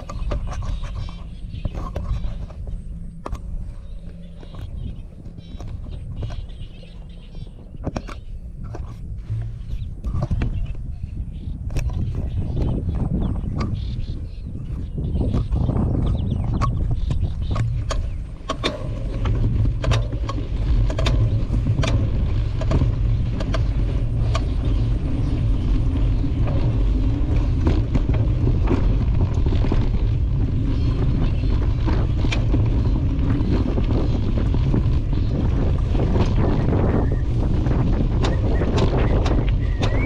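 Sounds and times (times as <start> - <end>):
knocks and rattles over bumps: 0.0 - 40.0
quad bike engine drone: 0.0 - 40.0
wind buffeting microphone: 0.0 - 40.0.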